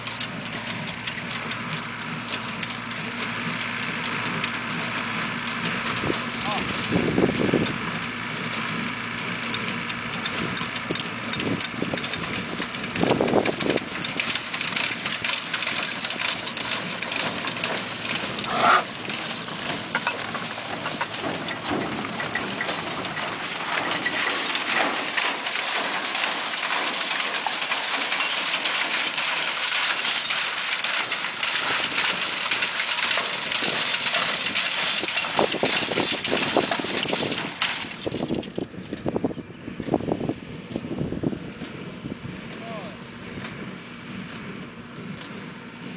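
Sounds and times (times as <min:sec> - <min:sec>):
hay loader clattering and rattling: 0:00.0 - 0:45.9.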